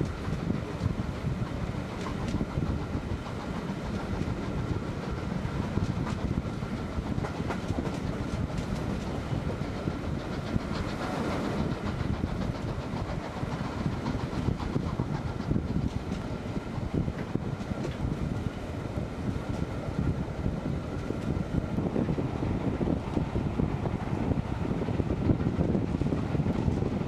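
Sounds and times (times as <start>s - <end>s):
rail clicks: 0.0s - 27.0s
train wheels rumbling on track: 0.0s - 27.0s.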